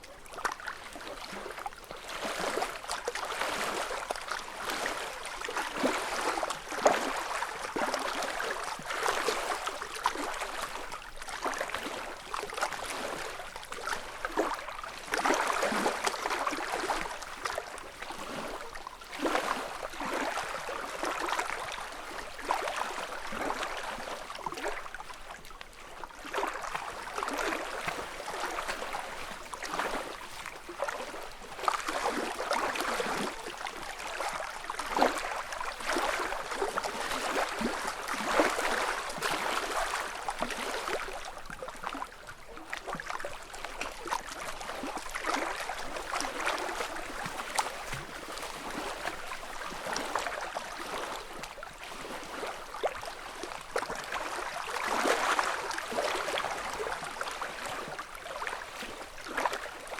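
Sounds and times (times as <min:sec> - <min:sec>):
water lapping on shore: 0:00.0 - 0:59.9.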